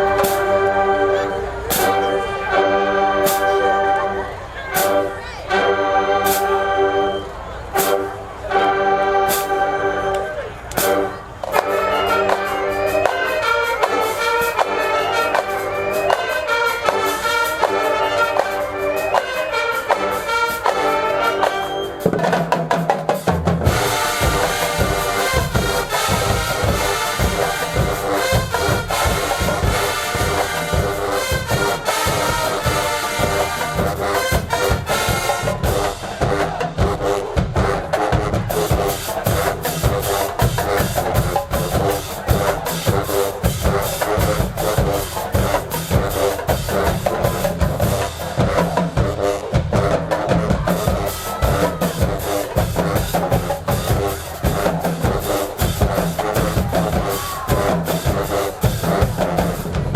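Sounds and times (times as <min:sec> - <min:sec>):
drumline pounding beat: 0:00.0 - 0:04.0, 0:07.8 - 0:59.9
marching band brass melody: 0:00.0 - 0:59.9.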